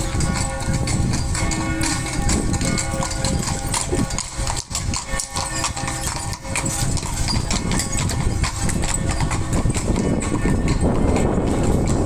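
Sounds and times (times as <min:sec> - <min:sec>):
church bells ringing: 0:00.0 - 0:11.8
horse hooves clip-clopping: 0:00.0 - 0:12.0.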